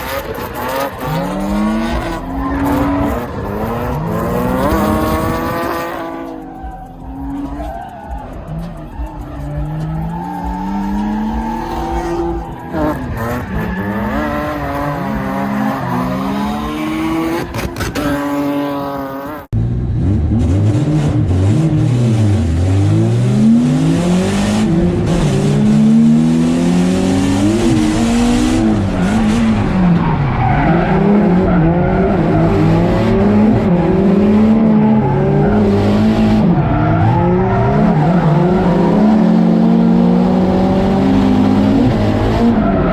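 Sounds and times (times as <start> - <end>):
tires squealing: 0.0 - 19.5, 23.4 - 42.9
car engine revving: 0.0 - 42.9.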